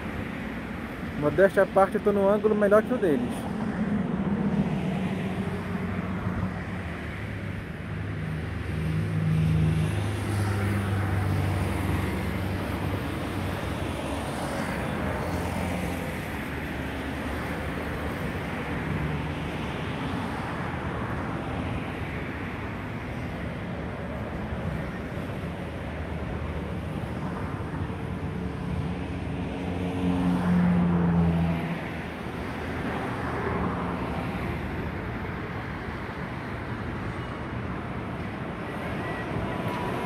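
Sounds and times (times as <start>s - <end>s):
engine and traffic hum: 0.0s - 40.0s.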